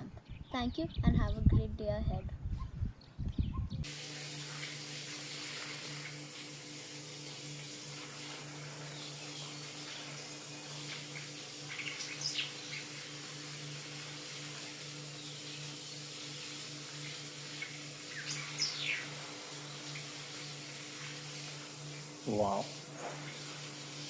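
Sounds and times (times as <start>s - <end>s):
steady hiss: 3.8s - 24.0s.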